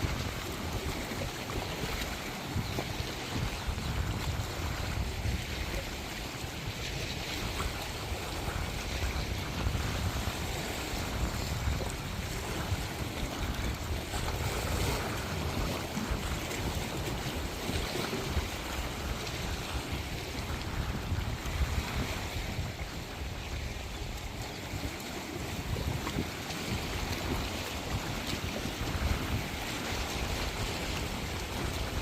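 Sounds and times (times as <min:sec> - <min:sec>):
sea waves washing ashore: 0:00.0 - 0:32.0
wind rumble on microphone: 0:00.0 - 0:32.0.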